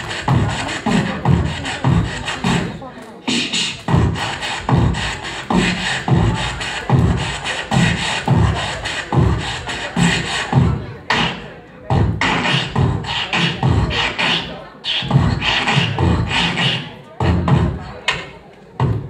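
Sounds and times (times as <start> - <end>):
person beatboxing into microphone: 0.0 - 19.0.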